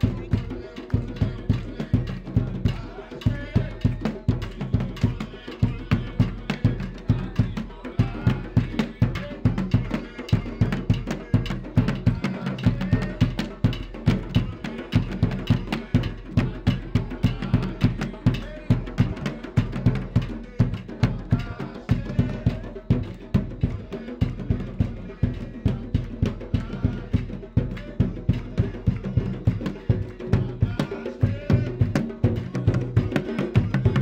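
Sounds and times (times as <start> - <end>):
drums beating driving rhythm: 0.0 - 34.0
voices singing: 0.0 - 34.0.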